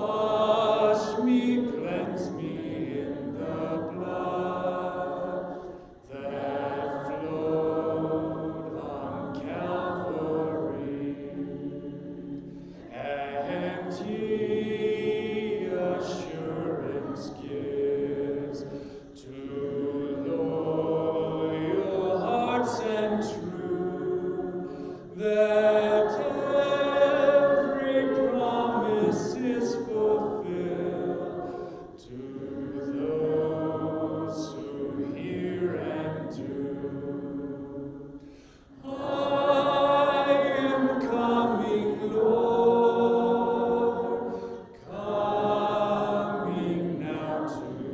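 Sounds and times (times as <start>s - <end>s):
congregation singing a hymn: 0.0s - 47.9s.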